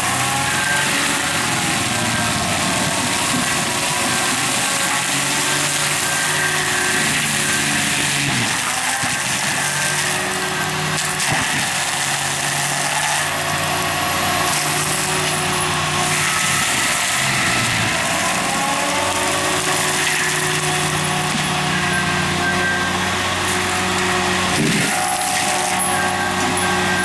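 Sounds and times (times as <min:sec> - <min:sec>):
diesel engine running under load: 0:00.0 - 0:27.0
mulching drum grinding brush: 0:00.0 - 0:27.0.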